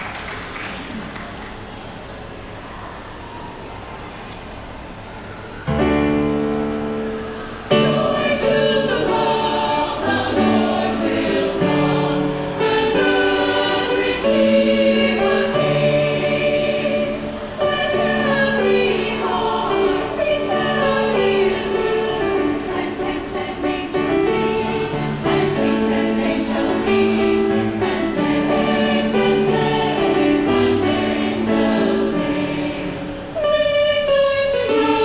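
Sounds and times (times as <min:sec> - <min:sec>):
choir singing: 0:05.6 - 0:35.0.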